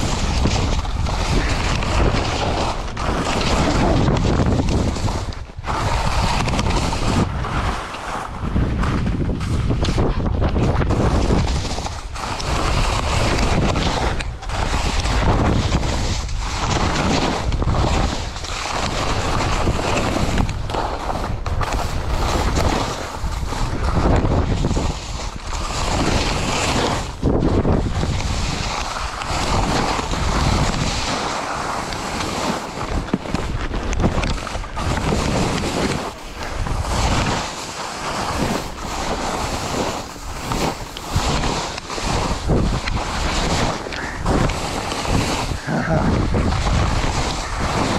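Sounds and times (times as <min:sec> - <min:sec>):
skis carving through snow: 0:00.0 - 0:47.9
wind buffeting microphone: 0:00.0 - 0:47.9.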